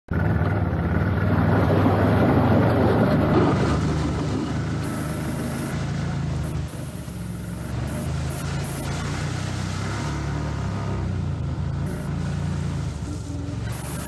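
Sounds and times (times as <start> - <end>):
atv engine running: 0.1 - 14.0.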